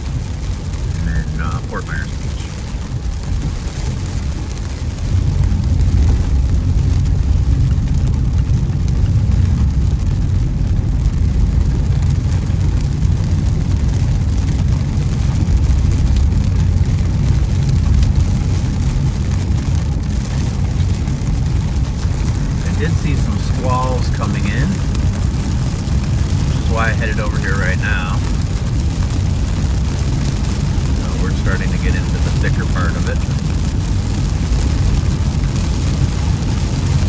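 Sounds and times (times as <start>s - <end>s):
rain and water spray hiss: 0.0s - 37.0s
tyres and engine rumble: 0.0s - 37.0s.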